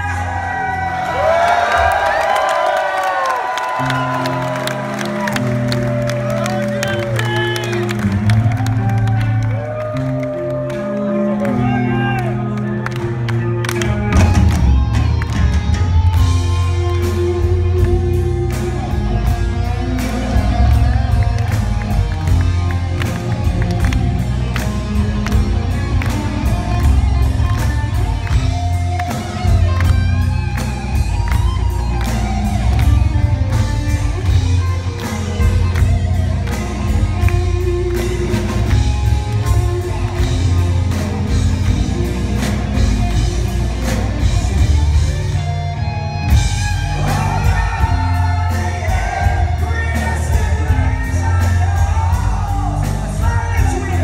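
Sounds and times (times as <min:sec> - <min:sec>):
metal band playing live: 0:03.7 - 0:54.0.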